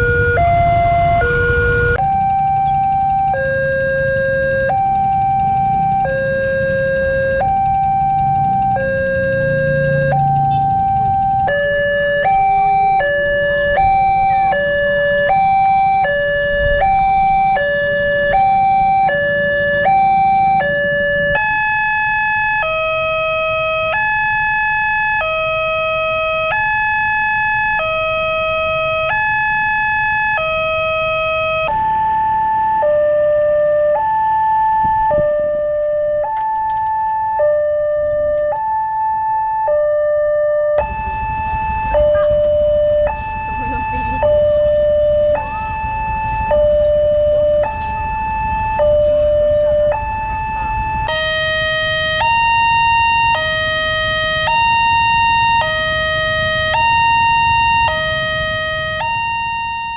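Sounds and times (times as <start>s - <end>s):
two-tone level crossing siren: 0.0s - 59.9s.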